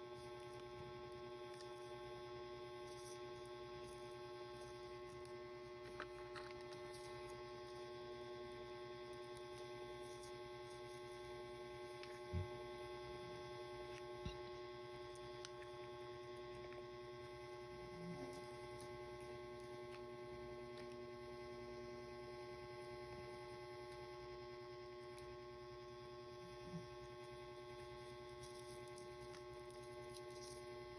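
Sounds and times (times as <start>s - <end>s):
electrical hum: 0.0s - 30.9s.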